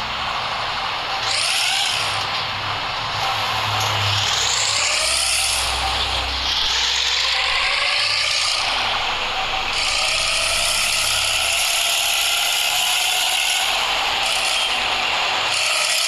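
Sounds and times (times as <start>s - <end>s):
diesel truck engine snoring exhaust: 0.0s - 16.0s.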